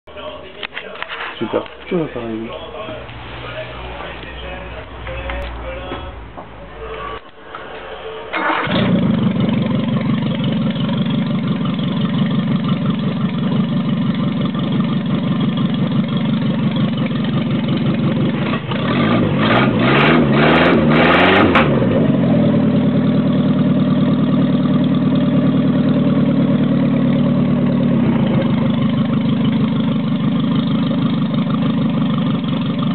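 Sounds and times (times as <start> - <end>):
car engine idling: 0.1 - 32.9
car engine starting: 0.6 - 32.9
car engine revving: 3.1 - 32.9.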